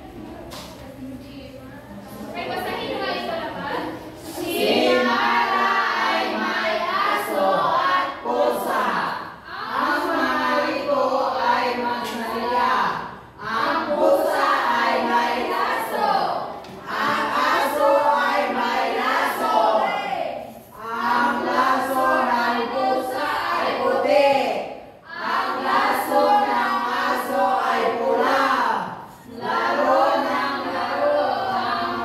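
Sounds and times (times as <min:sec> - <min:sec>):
young voices singing in unison: 0:02.2 - 0:32.0.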